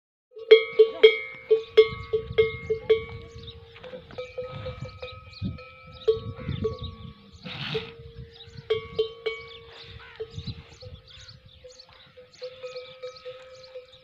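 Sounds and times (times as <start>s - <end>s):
metal bell clanking: 0.4s - 7.2s, 7.8s - 14.0s.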